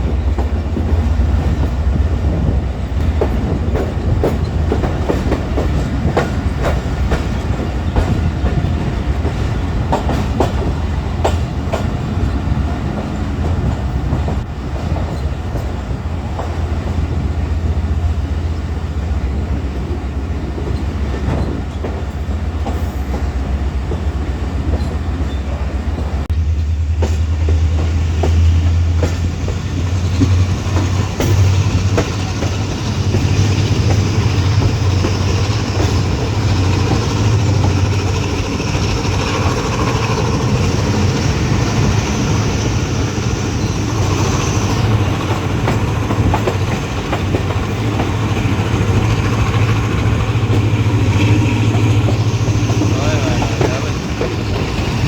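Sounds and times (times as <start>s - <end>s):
wheels clacking over rails: 0.0s - 17.7s, 20.6s - 55.0s
train rumbling on track: 0.0s - 55.0s.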